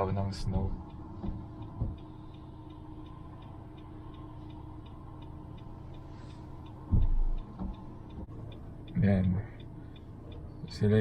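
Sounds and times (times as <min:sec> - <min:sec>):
steady ticking: 0:00.0 - 0:11.0
low hum: 0:00.2 - 0:10.8.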